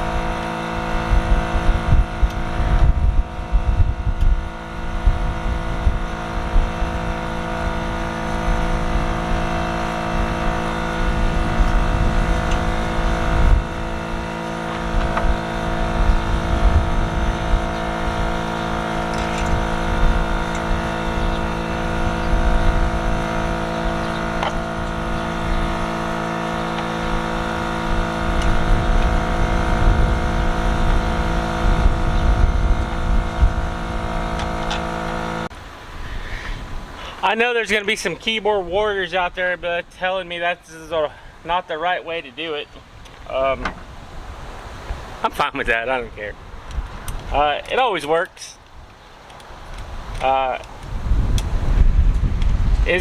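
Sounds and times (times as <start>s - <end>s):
wind rumbling on microphone: 0.0s - 37.2s, 42.8s - 47.6s, 48.7s - 53.0s
engine running steadily: 0.0s - 53.0s.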